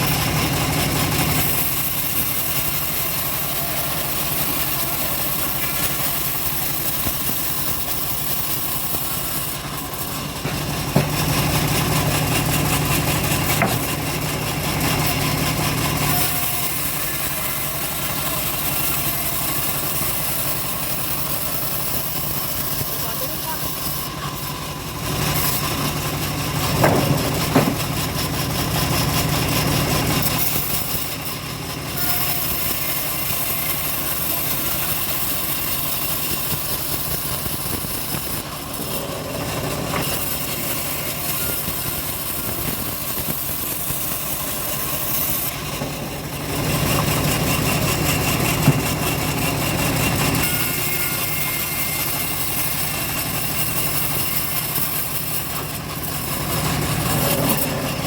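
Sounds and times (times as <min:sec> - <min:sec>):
engine-driven bandsaw sawmill running: 0:00.0 - 0:58.0.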